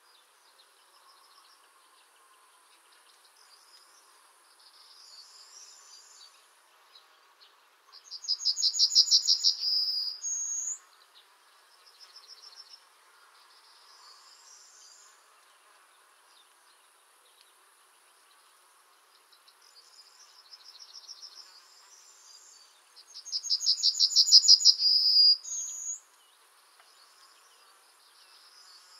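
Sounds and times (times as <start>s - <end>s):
bird song of repeated high notes: 0.0s - 28.9s
faint bird song: 0.0s - 28.9s.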